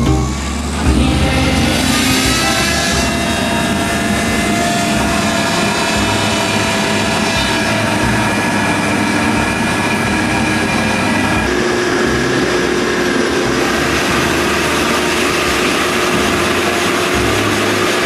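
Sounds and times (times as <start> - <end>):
drilling rig engine running: 0.0 - 18.0.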